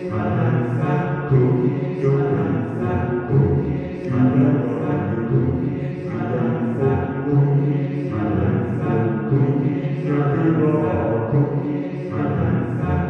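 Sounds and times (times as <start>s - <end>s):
group singing chant-like song: 0.0s - 13.0s.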